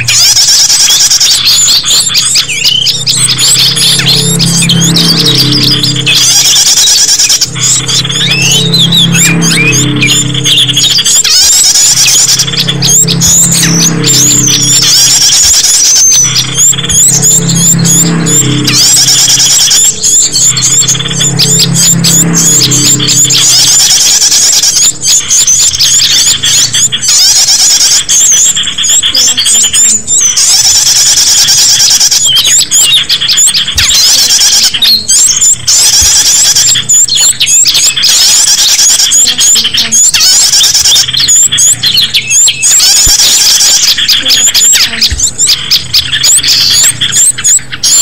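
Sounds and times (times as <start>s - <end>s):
small birds chirping and twittering: 0.0s - 48.0s.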